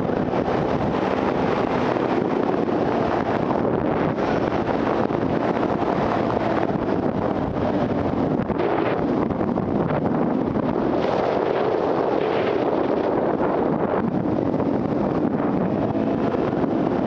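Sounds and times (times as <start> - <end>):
off-road motorcycle engine: 0.0 - 17.0
wind noise on microphone: 0.0 - 17.0.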